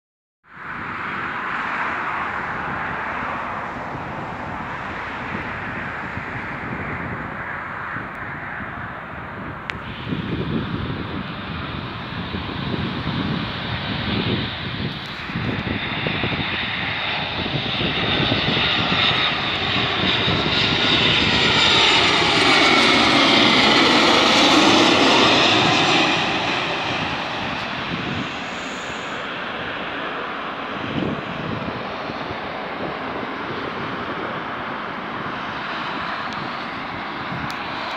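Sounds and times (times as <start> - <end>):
jet airliner passing overhead: 0.5 - 37.9.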